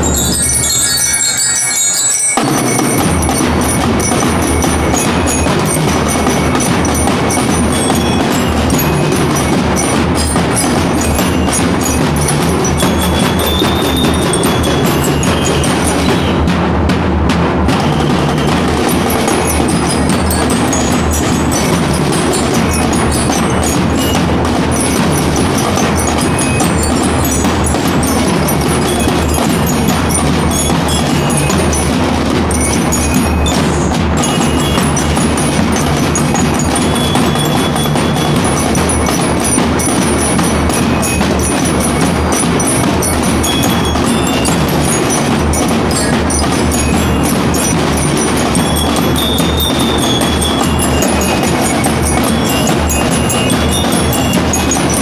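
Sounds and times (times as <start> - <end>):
bell lyres: 0.0 - 16.5, 17.7 - 55.0
snare drums: 0.0 - 55.0.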